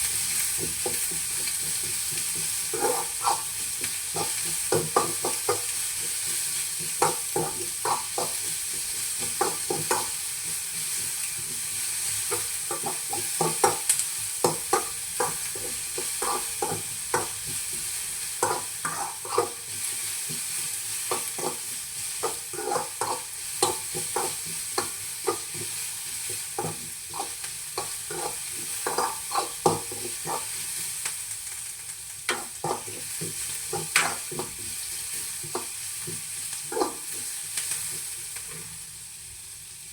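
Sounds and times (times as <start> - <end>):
onions sizzling in oil: 0.0 - 39.9.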